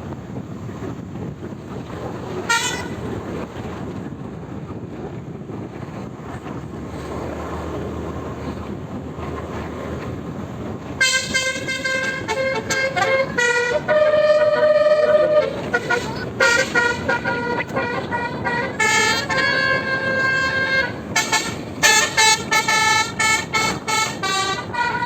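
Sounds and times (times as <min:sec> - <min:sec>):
low steady rumble: 0:00.0 - 0:25.0
multi-tone bus horn: 0:00.0 - 0:25.0.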